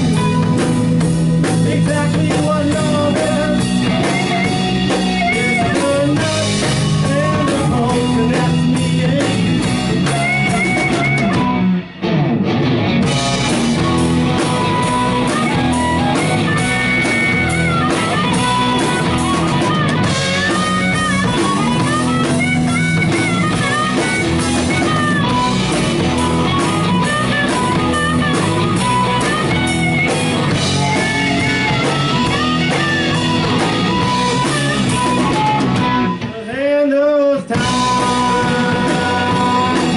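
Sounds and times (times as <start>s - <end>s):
live rock band playing: 0.0s - 39.9s
harmonica held notes: 2.7s - 11.8s, 13.1s - 36.5s, 37.6s - 39.9s.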